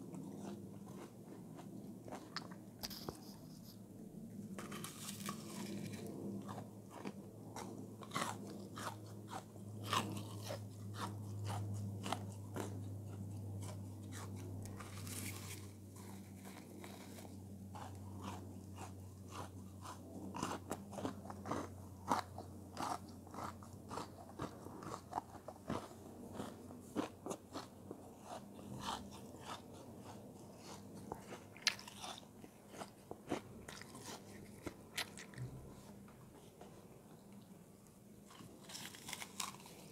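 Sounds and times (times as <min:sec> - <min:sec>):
crunching frozen food: 0:00.0 - 0:03.4, 0:04.4 - 0:36.1, 0:38.1 - 0:39.9
low steady hum: 0:00.0 - 0:39.9.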